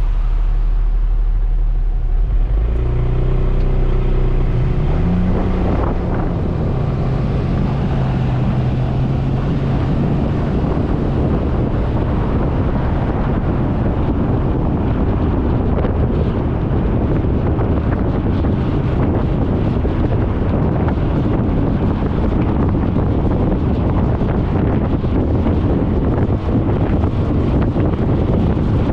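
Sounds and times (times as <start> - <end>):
wind on microphone: 0.0 - 28.9.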